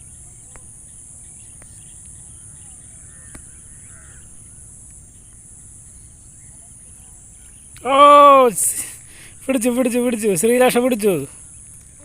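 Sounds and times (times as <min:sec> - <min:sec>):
bird call: 0:00.0 - 0:12.0
high-pitched insect chorus: 0:00.0 - 0:12.0.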